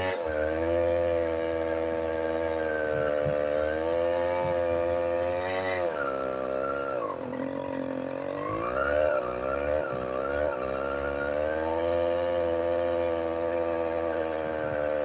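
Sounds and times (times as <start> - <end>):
small motorized bicycle engine: 0.0 - 15.0.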